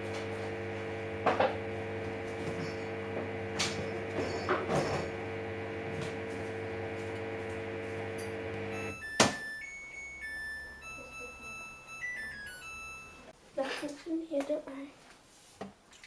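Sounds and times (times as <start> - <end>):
washing machine humming: 0.0 - 13.3.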